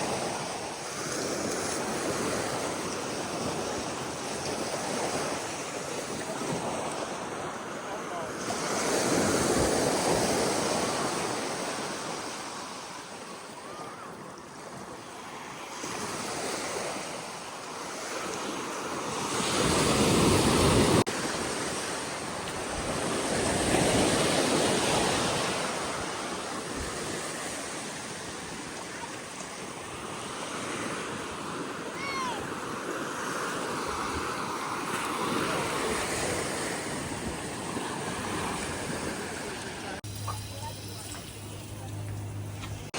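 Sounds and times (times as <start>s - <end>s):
ocean surf breaking on a beach: 0.0s - 42.9s.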